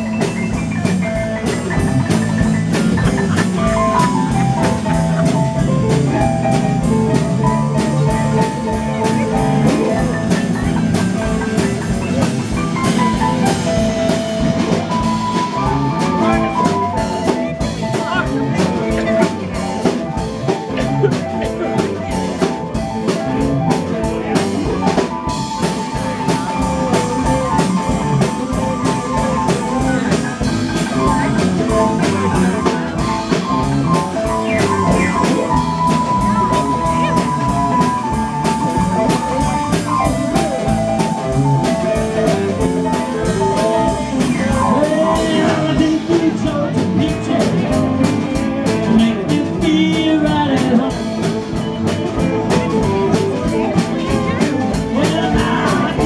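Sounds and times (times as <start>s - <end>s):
acoustic and electric guitars: 0.0s - 56.0s
steady drum beat: 0.0s - 56.0s.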